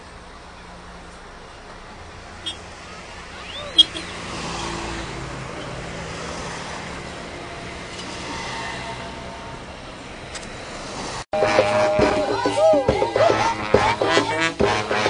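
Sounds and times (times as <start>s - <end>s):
vehicle road and engine noise: 0.0s - 15.0s.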